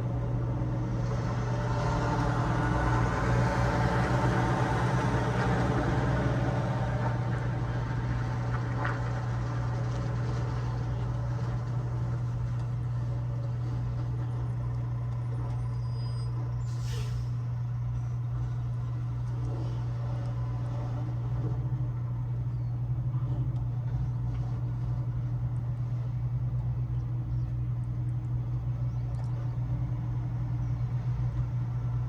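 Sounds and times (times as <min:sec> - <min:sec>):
road noise: 0:00.0 - 0:32.0
truck engine droning: 0:00.0 - 0:32.0.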